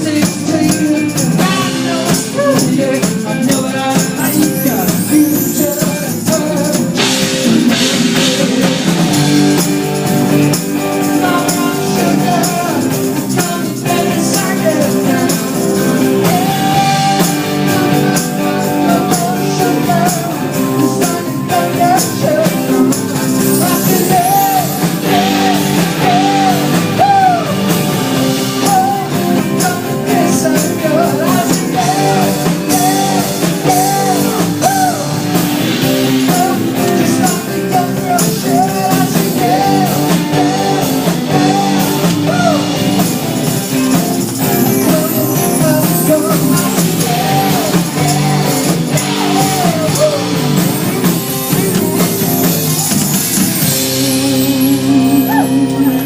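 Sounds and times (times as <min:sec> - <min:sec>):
person singing: 0:00.0 - 0:56.0
rock song: 0:00.0 - 0:56.0.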